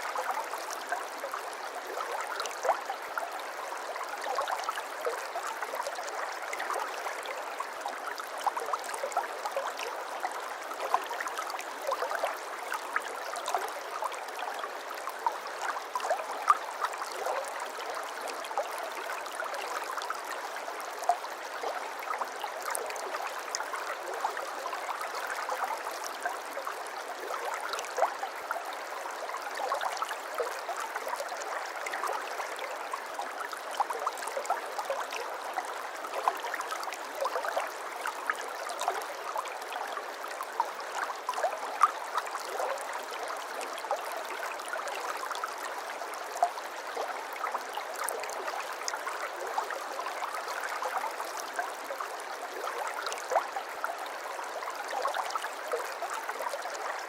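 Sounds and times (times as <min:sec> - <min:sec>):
water babbling and splashing: 0:00.0 - 0:57.0.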